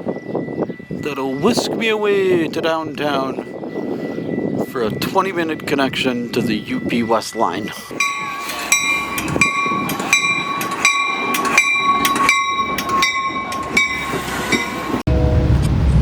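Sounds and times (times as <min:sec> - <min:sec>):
locomotive bell ringing: 0:00.0 - 0:15.1
low train rumble: 0:00.0 - 0:16.0.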